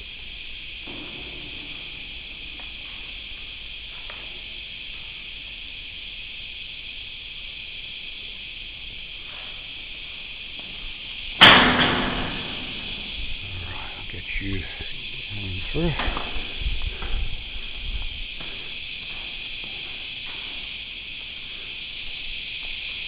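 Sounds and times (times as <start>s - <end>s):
cicada chorus drone: 0.0s - 23.0s.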